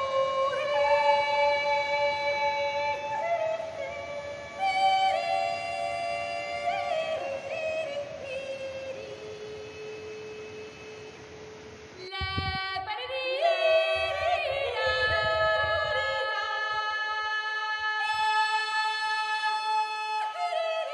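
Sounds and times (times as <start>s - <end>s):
wordless vocal music: 0.0s - 20.9s.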